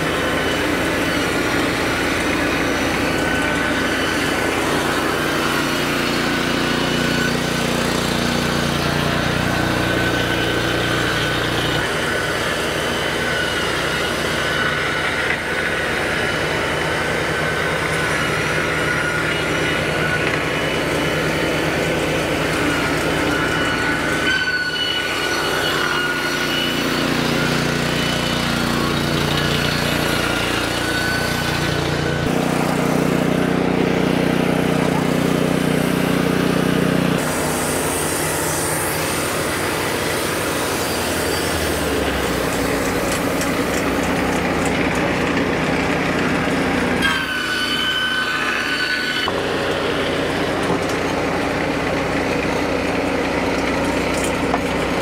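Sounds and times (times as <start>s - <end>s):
gas engine running: 0.0s - 24.4s, 25.0s - 47.0s, 49.3s - 55.0s
saw blades high whine: 0.0s - 55.0s.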